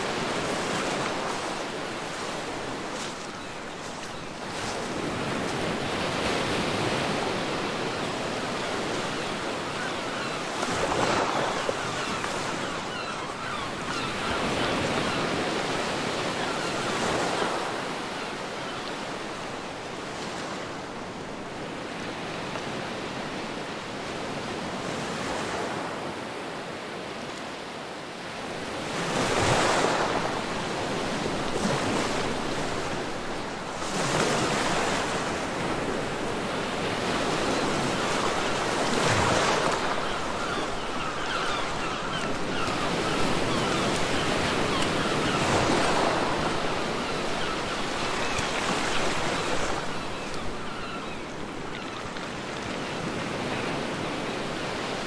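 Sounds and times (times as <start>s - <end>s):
ocean waves breaking: 0.0s - 27.3s, 28.4s - 55.0s
wind: 0.0s - 55.0s.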